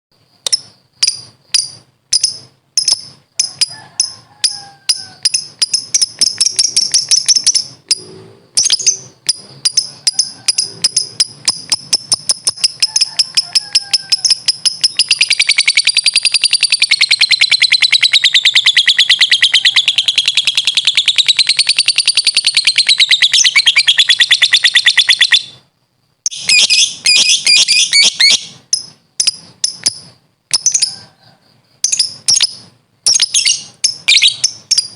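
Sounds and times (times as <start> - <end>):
lovebird chirping and chattering: 0.4 - 25.6, 26.2 - 34.9.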